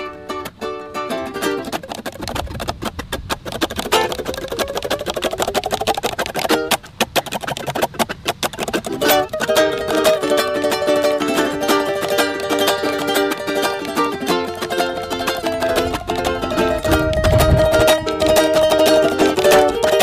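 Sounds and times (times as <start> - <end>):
plucked-string tune: 0.0 - 20.0.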